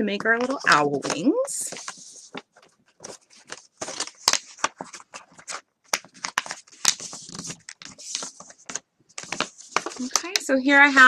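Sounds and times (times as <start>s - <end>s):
paper plate crinkling: 0.0s - 11.0s.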